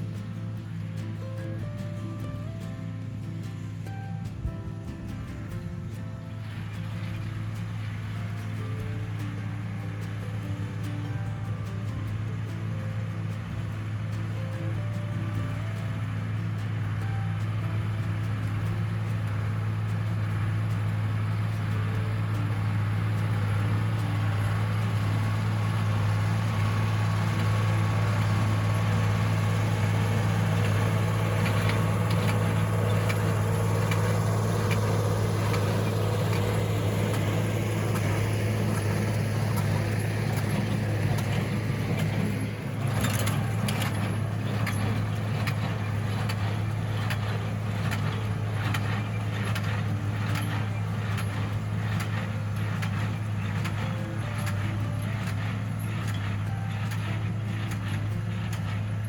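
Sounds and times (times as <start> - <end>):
rattling and clatter: 0.0 - 59.0
tractor engine droning: 0.0 - 59.0.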